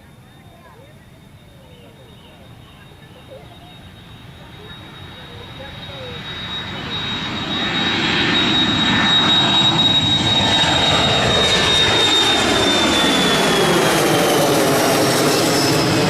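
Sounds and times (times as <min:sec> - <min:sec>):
jet engines passing close by: 0:00.0 - 0:16.0.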